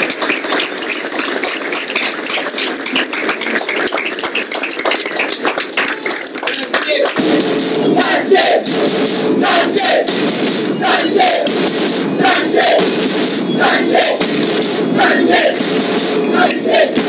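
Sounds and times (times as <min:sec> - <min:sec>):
crowd chatter: 0:00.0 - 0:10.1, 0:10.7 - 0:17.0.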